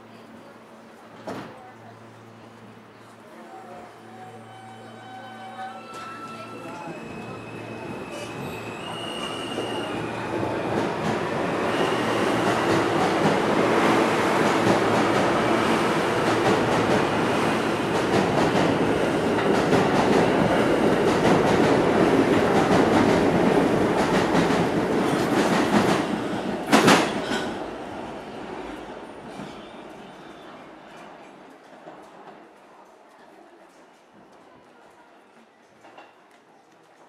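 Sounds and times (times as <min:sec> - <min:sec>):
subway train rumbling: 0:00.0 - 0:37.0.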